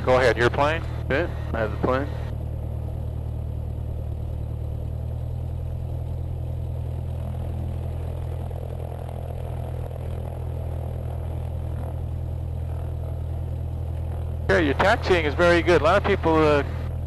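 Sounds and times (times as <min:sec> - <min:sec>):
airplane engine humming: 0:00.0 - 0:17.0.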